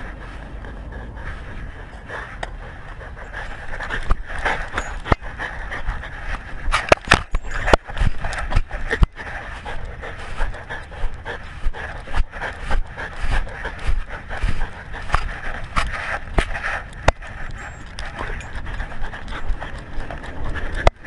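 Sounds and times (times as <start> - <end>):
dog panting: 0.0 - 21.0.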